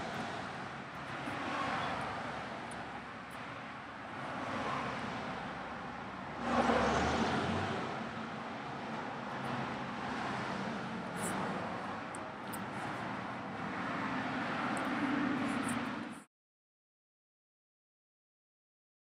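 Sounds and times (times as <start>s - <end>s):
road traffic: 0.0s - 16.3s.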